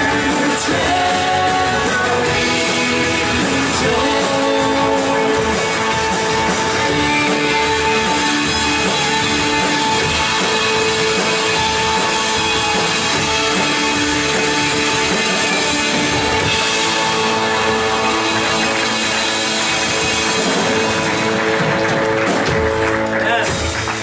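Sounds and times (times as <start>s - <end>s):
drums: 0.0s - 24.0s
guitars: 0.0s - 24.0s
held chords: 0.0s - 24.0s.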